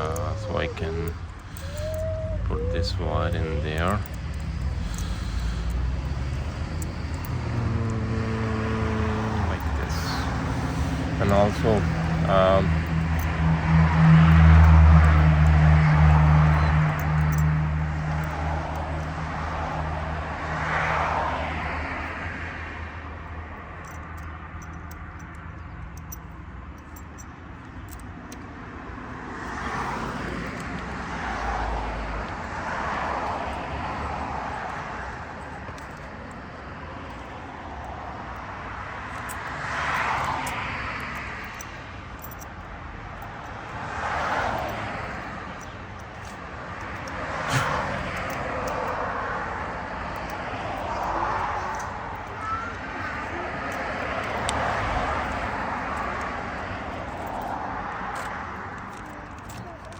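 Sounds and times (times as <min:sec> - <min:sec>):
low engine hum: 0:00.0 - 0:59.9
vehicles passing by: 0:00.0 - 0:59.9.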